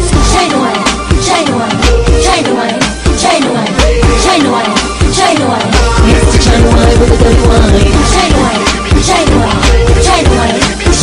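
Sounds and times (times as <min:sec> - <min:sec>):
dancehall song: 0:00.0 - 0:11.0.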